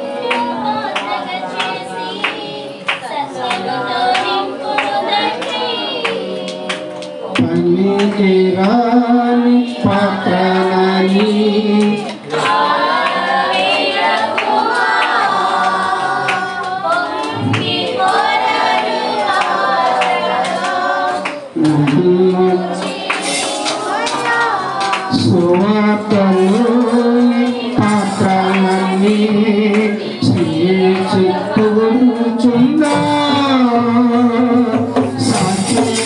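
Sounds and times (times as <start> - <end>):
man singing worship song: 6.2 - 36.0.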